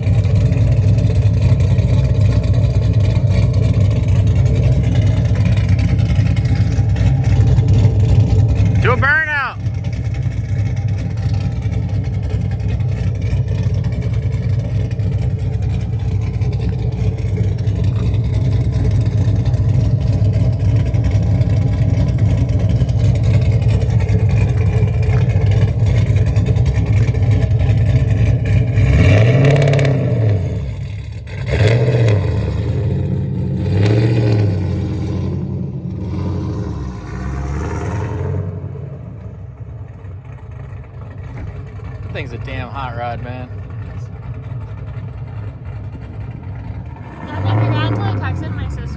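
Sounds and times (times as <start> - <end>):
car engine running loud: 0.0 - 48.9
engine throttle blips: 0.0 - 48.9.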